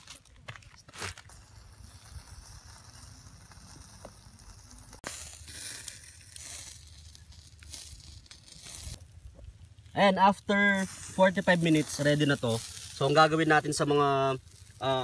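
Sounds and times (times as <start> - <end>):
chicken sizzling over charcoal: 0.9 - 15.0.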